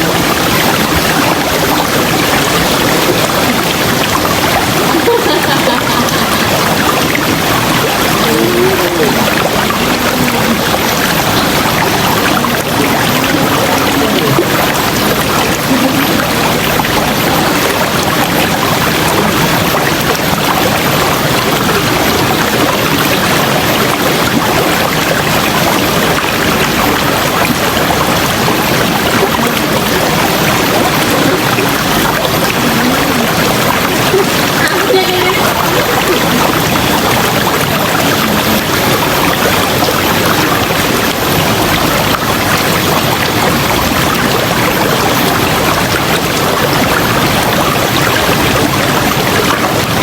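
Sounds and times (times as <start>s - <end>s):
river water rushing: 0.0s - 50.0s.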